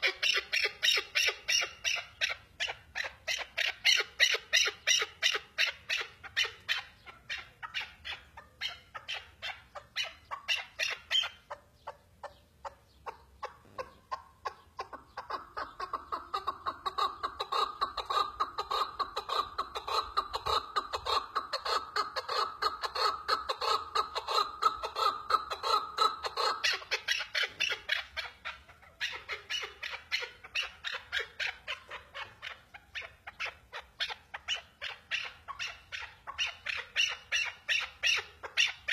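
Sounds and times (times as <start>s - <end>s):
partridge clucking calls: 0.0s - 38.9s.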